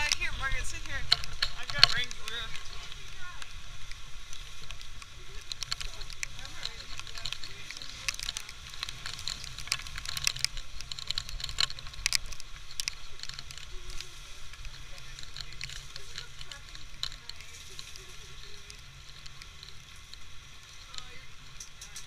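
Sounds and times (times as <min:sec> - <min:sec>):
low steady rumble: 0:00.0 - 0:22.0
wind and rain on camera: 0:00.0 - 0:22.0.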